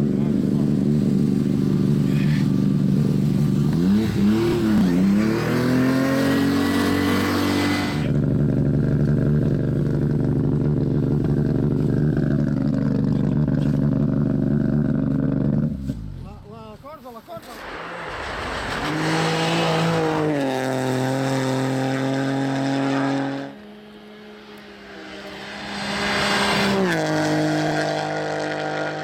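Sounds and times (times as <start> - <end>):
rally car engine revving: 0.0 - 16.4, 17.4 - 29.0.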